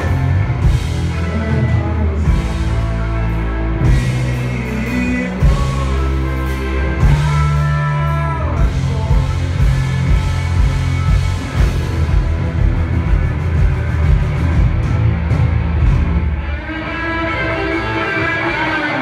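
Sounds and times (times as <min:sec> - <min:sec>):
electric guitars: 0:00.0 - 0:19.0
rock band playing live: 0:00.0 - 0:19.0.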